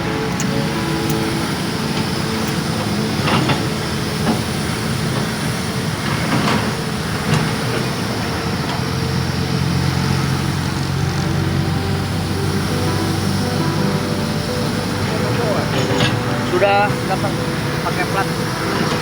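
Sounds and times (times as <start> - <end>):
heavy engine running: 0.0 - 19.0.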